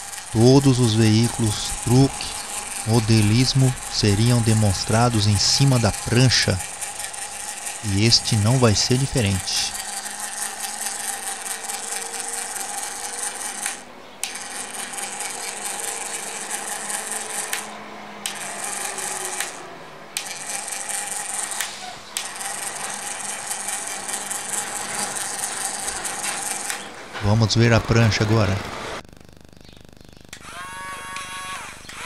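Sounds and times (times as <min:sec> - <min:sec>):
rotating stand rattling: 0:00.0 - 0:19.6, 0:20.2 - 0:29.0.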